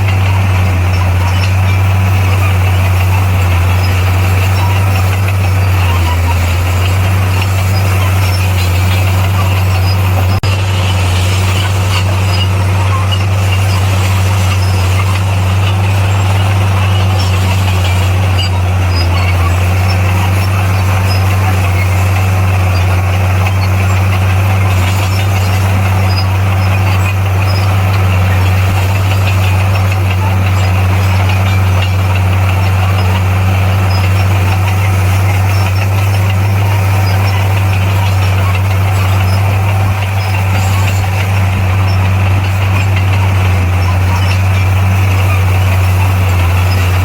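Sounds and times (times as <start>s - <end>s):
bulldozer diesel engine drone: 0.0s - 47.0s.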